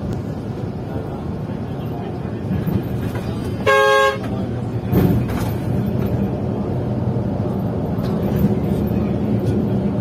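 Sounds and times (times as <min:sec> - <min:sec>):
coach engine and road drone: 0:00.0 - 0:10.0.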